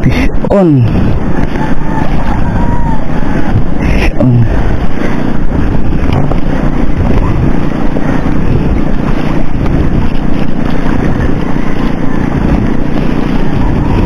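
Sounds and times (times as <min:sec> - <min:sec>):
sea wash: 0:00.0 - 0:14.0
wind buffeting microphone: 0:00.0 - 0:14.0.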